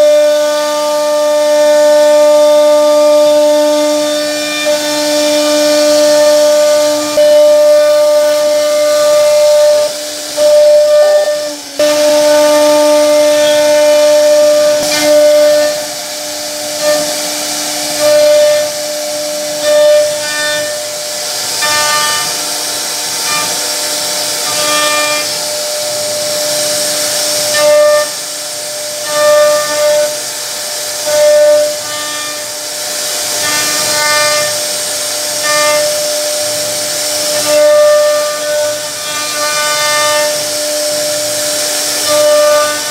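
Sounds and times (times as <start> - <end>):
router spindle whine carving wood: 0.0 - 42.9.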